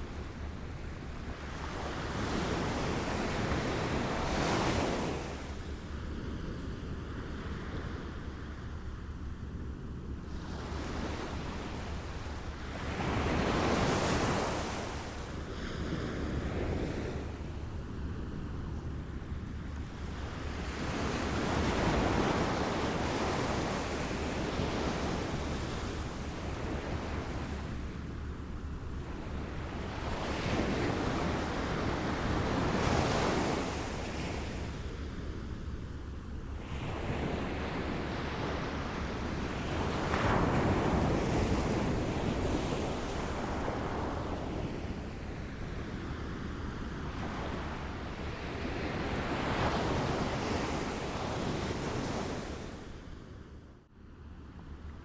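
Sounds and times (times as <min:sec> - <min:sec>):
waves lapping on a shore: 0:00.0 - 0:09.1, 0:10.2 - 0:53.4.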